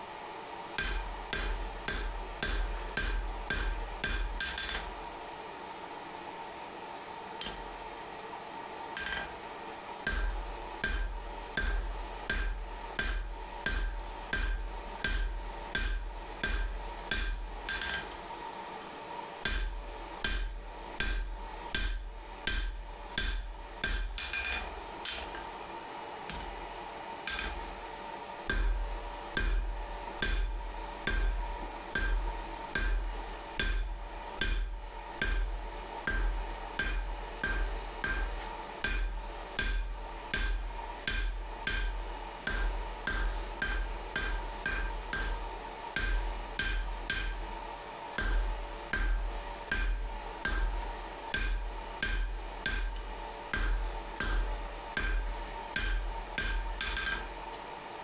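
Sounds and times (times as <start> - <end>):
hammer striking steel on anvil: 0.8 - 5.0, 7.4 - 7.8, 9.0 - 9.4, 10.0 - 18.2, 19.4 - 25.6, 26.3 - 26.6, 27.3 - 27.7, 28.4 - 57.4.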